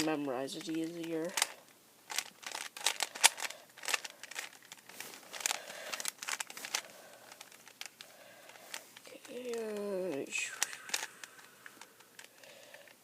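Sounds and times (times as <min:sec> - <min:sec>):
plastic puzzle cube clicking: 0:00.6 - 0:13.0.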